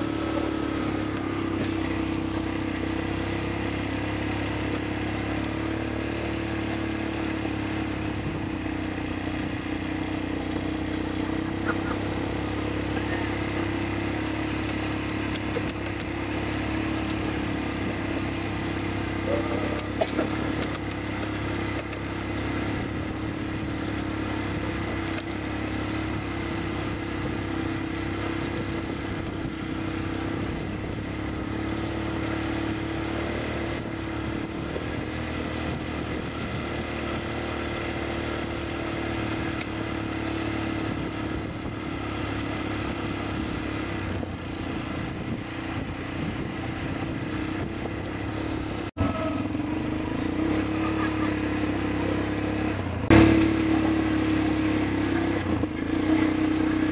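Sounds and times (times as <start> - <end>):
atv engines droning: 0.0 - 56.9.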